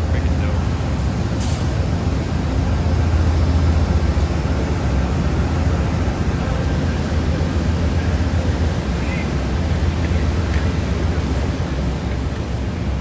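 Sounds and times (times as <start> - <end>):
diesel locomotive droning: 0.0 - 13.0.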